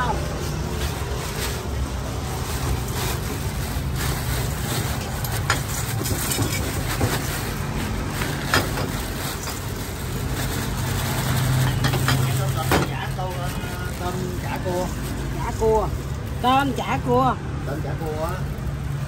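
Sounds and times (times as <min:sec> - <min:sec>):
motorbike traffic: 0:00.0 - 0:19.0.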